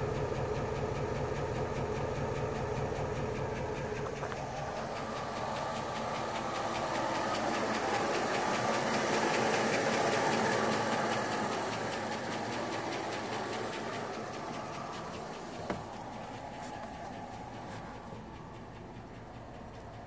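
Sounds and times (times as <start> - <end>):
car engine idling: 0.0 - 20.0
rapid valve train ticking: 0.0 - 20.0.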